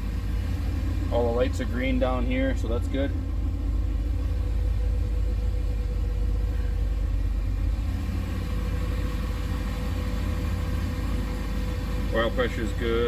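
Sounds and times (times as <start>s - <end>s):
car engine idling: 0.0s - 13.0s
thin steady hum: 0.0s - 13.0s.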